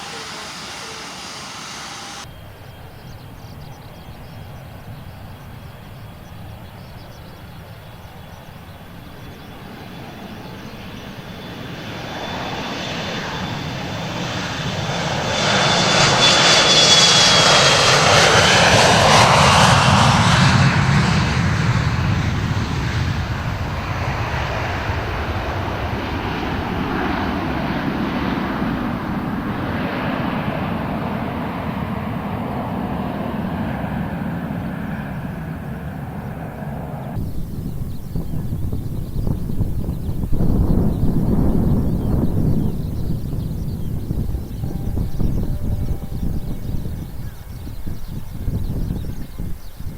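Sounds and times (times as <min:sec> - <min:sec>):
high fan whine: 0:00.0 - 0:02.3, 0:07.5 - 0:49.9
jet airliner engines roaring: 0:00.0 - 0:02.3, 0:03.0 - 0:49.9.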